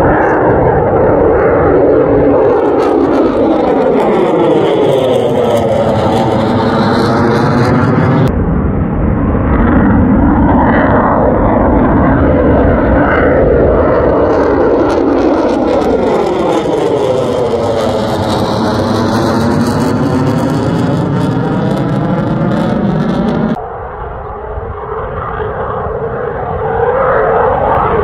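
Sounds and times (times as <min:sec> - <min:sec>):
fighter jet flying overhead: 0:00.0 - 0:28.0.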